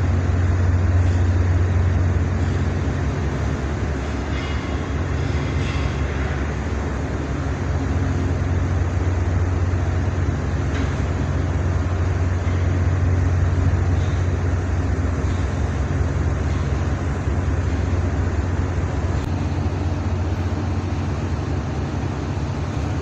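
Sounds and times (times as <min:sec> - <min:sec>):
boat engines droning: 0:00.0 - 0:23.0.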